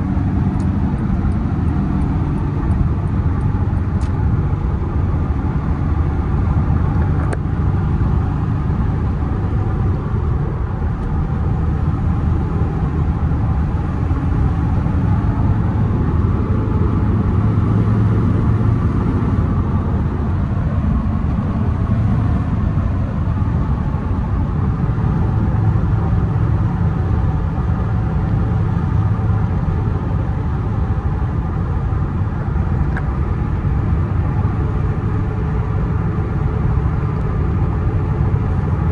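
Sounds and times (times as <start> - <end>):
pickup truck engine drone: 0.0 - 38.9
road noise: 0.0 - 38.9.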